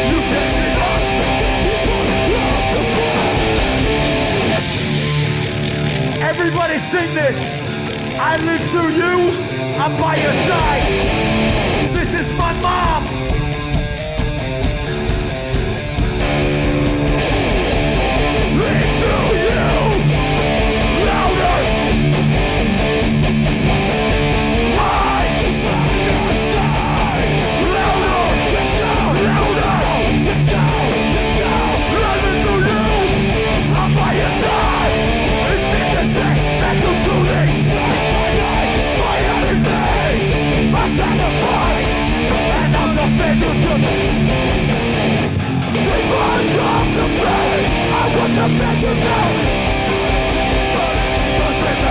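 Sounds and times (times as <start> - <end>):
live punk band playing: 0.0 - 51.9.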